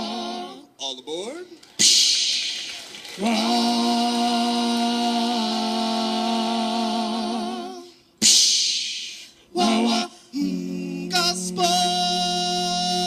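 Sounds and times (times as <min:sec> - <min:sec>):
voices singing a cappella: 0:00.0 - 0:00.8, 0:03.1 - 0:13.0.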